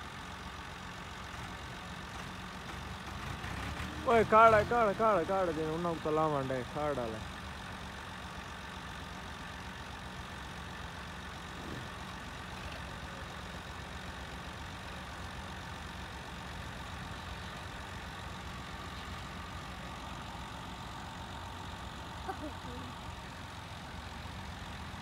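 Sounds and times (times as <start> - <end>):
tractor diesel engines running: 0.0 - 25.0.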